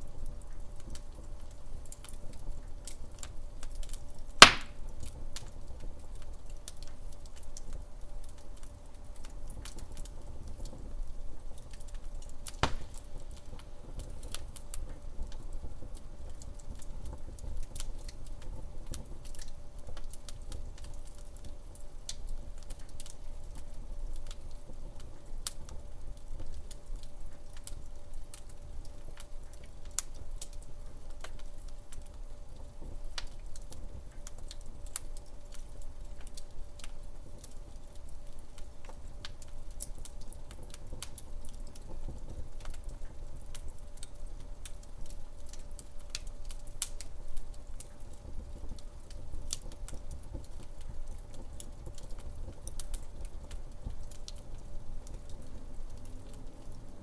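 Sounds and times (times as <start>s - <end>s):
log fire crackling and popping: 0.0s - 57.0s.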